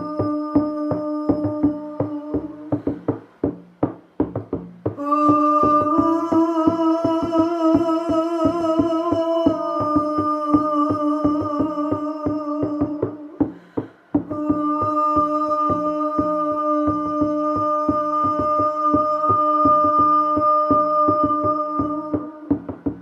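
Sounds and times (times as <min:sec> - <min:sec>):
long held high vocal tone: 0:00.0 - 0:03.2, 0:04.9 - 0:23.0
hand drum beating fast rhythm: 0:00.0 - 0:23.0.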